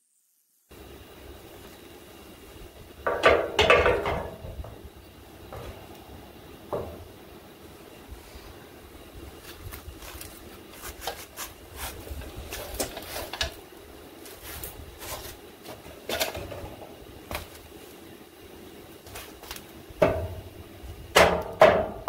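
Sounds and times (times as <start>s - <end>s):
low steady hum: 0.6s - 22.0s.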